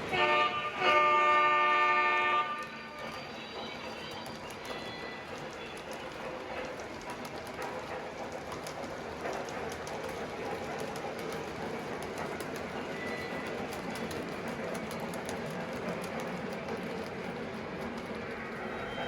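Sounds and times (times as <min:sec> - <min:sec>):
model train running: 0:00.0 - 0:19.0
wheels clicking over rail joints: 0:00.0 - 0:19.0.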